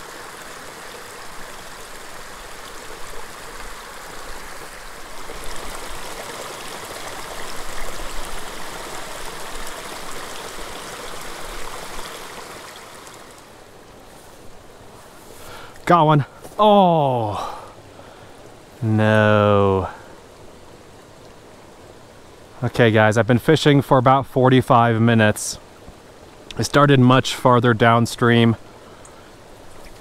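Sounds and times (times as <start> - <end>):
creek water babbling: 0.0 - 30.0.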